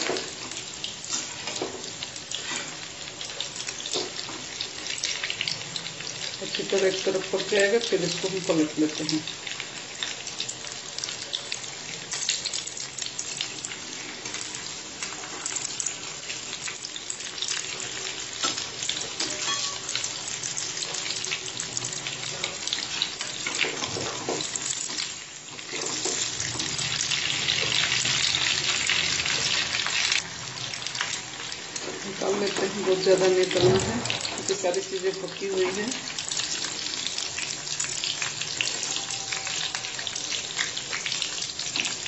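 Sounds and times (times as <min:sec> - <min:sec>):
oil sizzling and crackling: 0:00.0 - 0:42.0.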